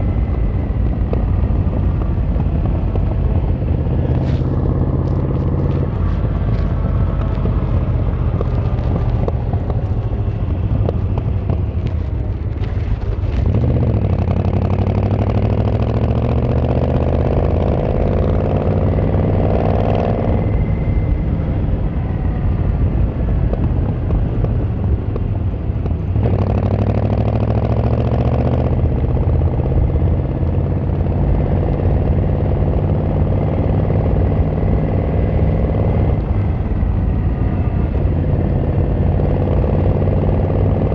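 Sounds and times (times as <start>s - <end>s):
motorcycle engine revving: 0.0s - 21.0s, 25.9s - 40.9s.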